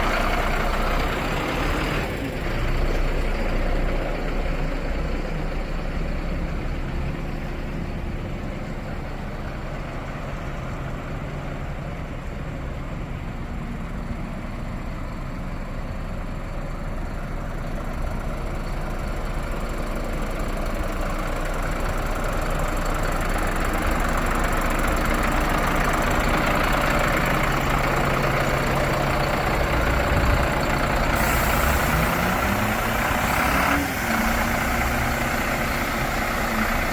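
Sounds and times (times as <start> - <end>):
diesel truck engine humming: 0.0 - 36.9.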